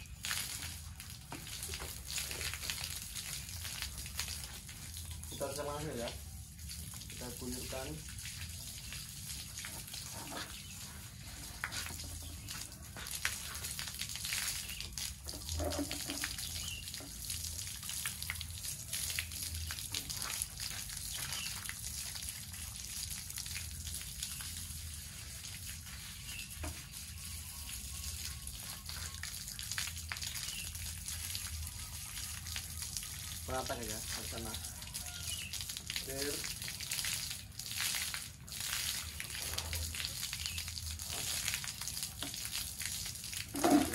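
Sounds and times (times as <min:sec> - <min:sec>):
water splashing on bicycle: 0:00.0 - 0:26.6, 0:28.4 - 0:43.9.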